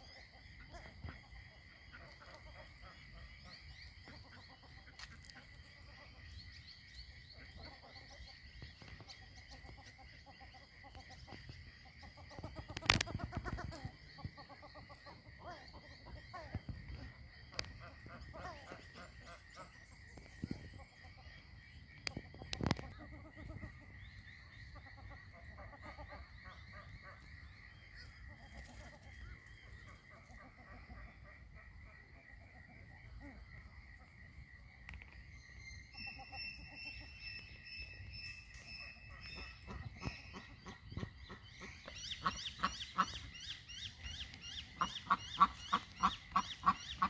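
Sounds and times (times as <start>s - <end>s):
ducks clucking softly: 0.0s - 6.6s, 7.3s - 35.0s, 35.9s - 47.0s.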